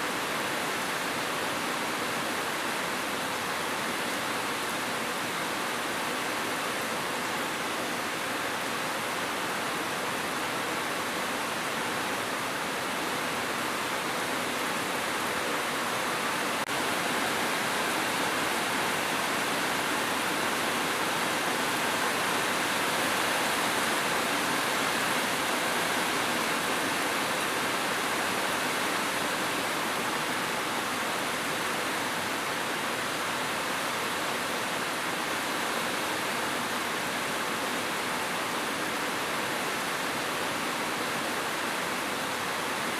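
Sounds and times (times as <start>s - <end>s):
heavy rainfall: 0.0s - 42.9s.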